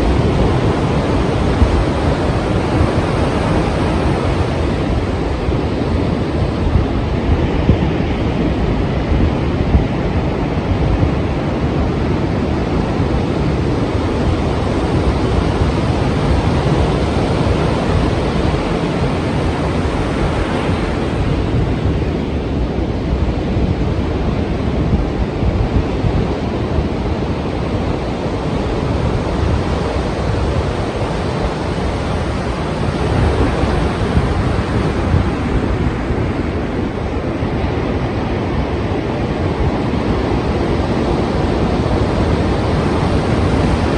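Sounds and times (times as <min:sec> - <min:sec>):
sea waves breaking: 0:00.0 - 0:43.9
wind buffeting microphone: 0:00.0 - 0:43.9.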